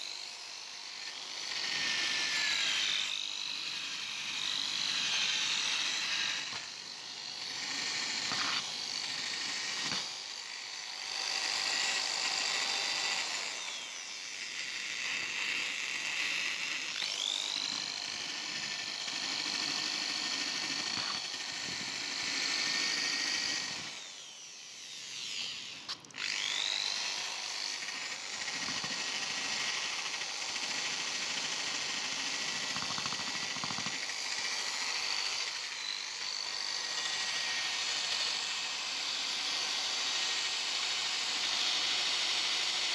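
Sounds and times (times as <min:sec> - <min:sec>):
rotary tool whine: 0:00.0 - 0:42.9.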